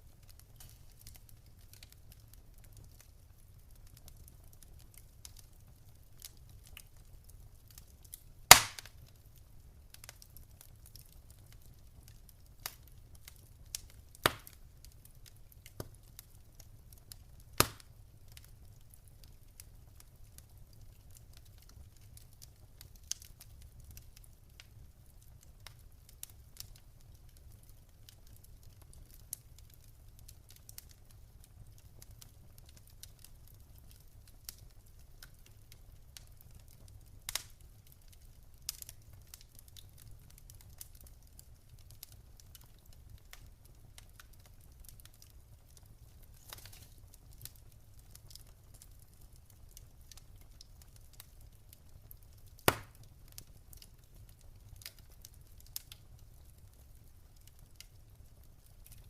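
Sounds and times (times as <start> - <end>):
wood fire crackling: 0.0 - 59.0
burning logs popping: 0.1 - 59.0.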